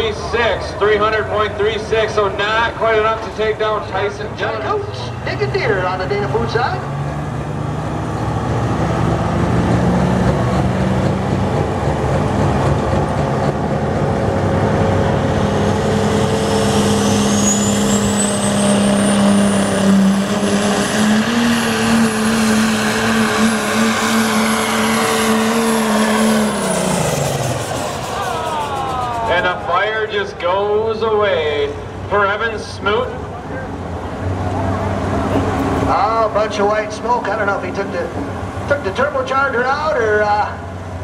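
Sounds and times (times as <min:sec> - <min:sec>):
diesel engine at full throttle: 0:00.0 - 0:41.0.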